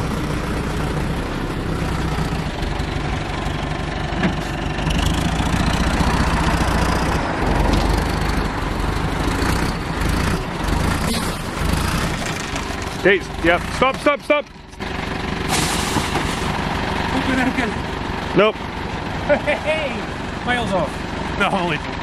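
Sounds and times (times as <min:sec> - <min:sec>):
lorry diesel engine running: 0:00.0 - 0:22.0.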